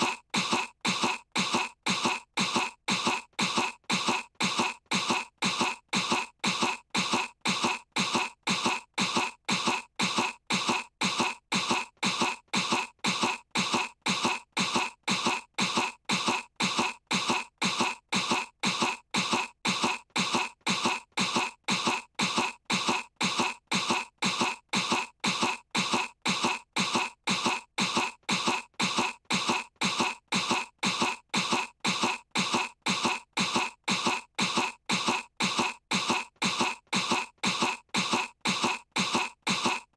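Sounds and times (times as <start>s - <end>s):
girl's cartoon fake cough: 0.0s - 39.9s.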